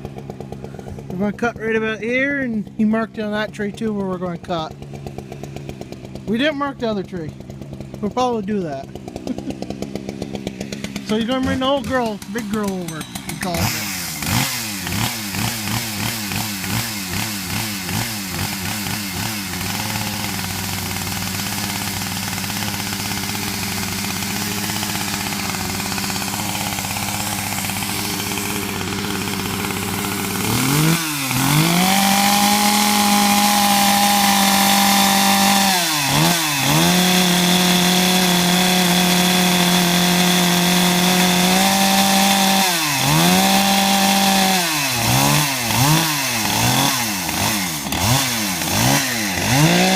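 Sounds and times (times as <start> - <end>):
chainsaw engine revving: 0.0 - 49.9.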